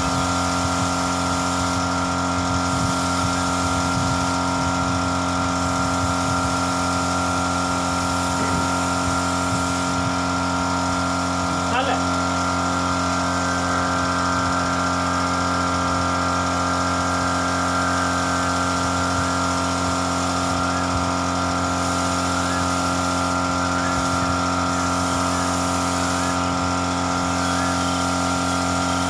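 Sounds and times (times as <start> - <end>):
air hissing: 0.0 - 11.8, 16.8 - 29.0
air compressor humming: 0.0 - 29.0.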